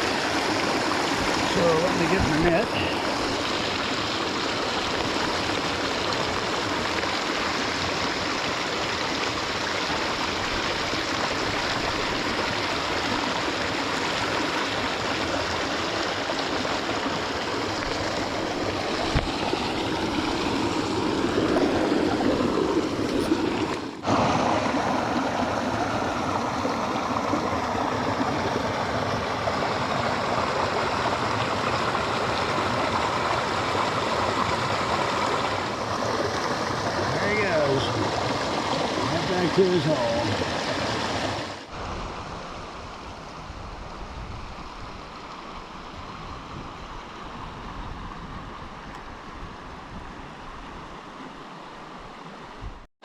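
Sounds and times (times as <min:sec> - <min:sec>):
creek water flowing: 0:00.0 - 0:52.9.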